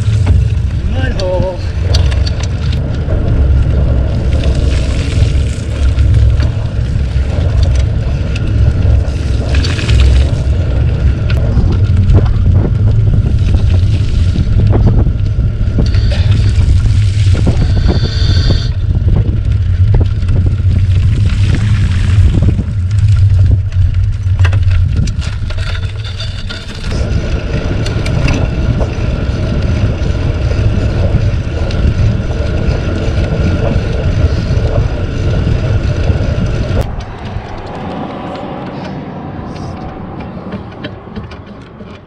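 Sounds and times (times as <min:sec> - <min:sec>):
bicycle tyres rolling: 0:00.0 - 0:42.0
gravel clicks: 0:00.0 - 0:42.0
wind buffeting microphone: 0:00.0 - 0:42.0.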